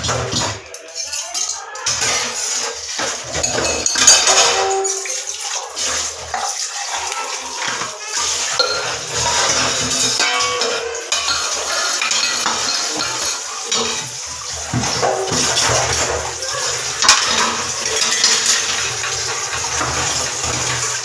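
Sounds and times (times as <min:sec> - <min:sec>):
metal utensils clinking: 0:00.0 - 0:21.0
running water: 0:00.0 - 0:21.0.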